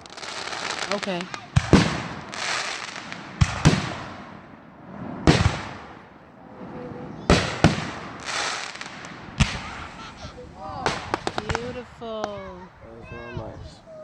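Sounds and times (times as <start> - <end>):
fireworks banging: 0.0 - 14.0
fireworks crackle and hiss: 0.0 - 14.0.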